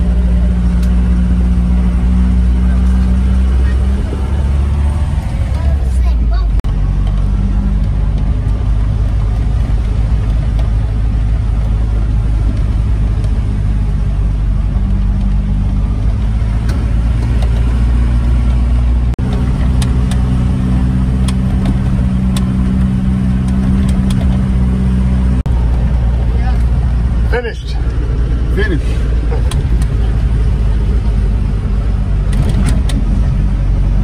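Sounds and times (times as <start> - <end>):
diesel engine running inside cab: 0.0 - 34.0.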